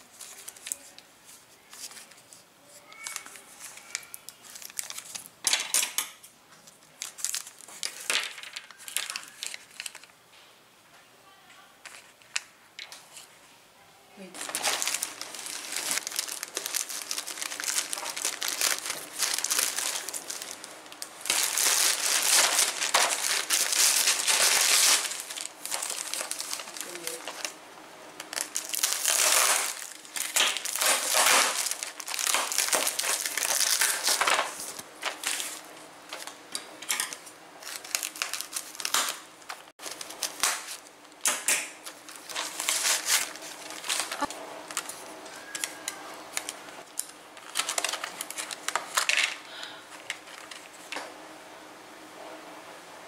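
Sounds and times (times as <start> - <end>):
plastic packaging crinkling: 0.0 - 10.2, 14.2 - 27.6, 28.2 - 51.0.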